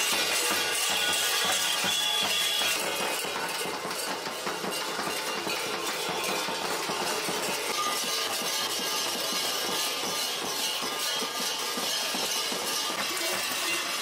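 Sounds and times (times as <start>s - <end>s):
large metal bells clanking: 0.0s - 14.0s.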